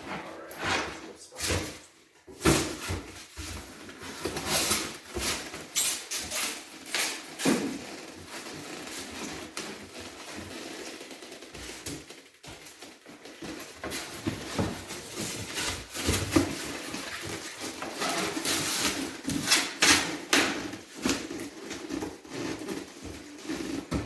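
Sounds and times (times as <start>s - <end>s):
rustling and handling noise: 0.0s - 24.0s.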